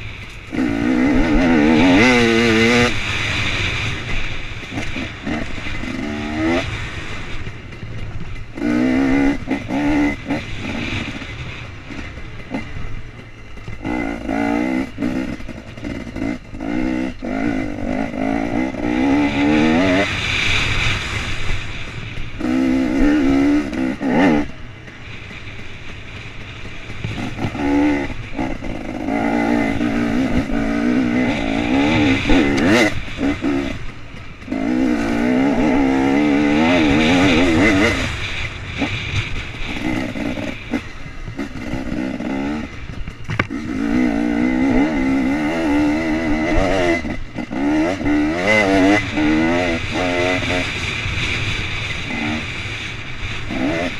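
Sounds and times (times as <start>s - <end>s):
two-stroke motorcycle engine revving: 0.0s - 53.9s.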